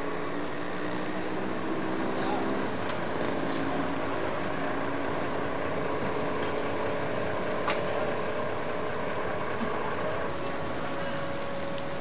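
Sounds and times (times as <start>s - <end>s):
street traffic: 0.0s - 12.0s
vehicle engine humming: 0.0s - 12.0s.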